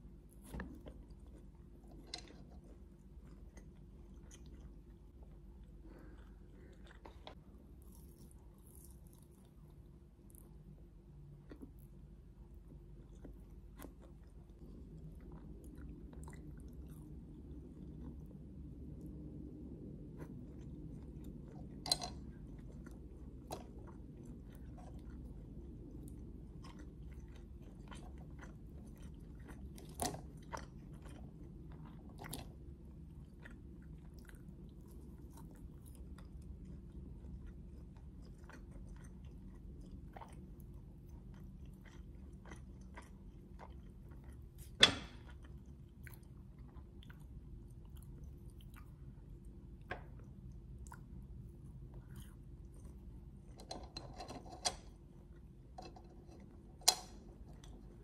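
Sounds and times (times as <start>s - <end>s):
chewing and biting food: 0.0s - 58.0s.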